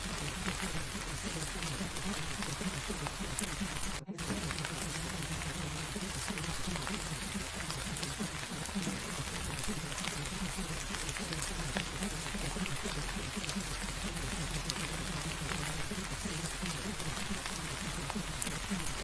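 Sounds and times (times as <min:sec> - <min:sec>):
low muffled murmur: 0:00.0 - 0:19.0
steady rain: 0:00.0 - 0:19.0.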